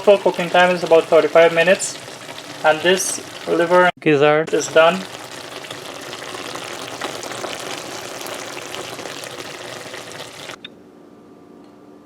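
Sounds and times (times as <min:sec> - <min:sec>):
curry sizzling in a pot: 0:00.0 - 0:03.9, 0:04.5 - 0:10.6.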